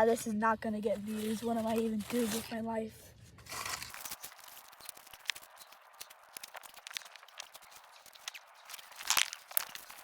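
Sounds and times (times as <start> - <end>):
dead leaves rustling and crackling: 0.8 - 2.6, 3.4 - 10.0.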